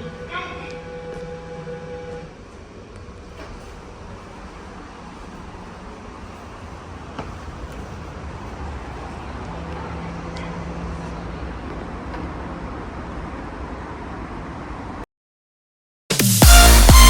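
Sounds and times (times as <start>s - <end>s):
elevator humming: 0.0s - 15.0s.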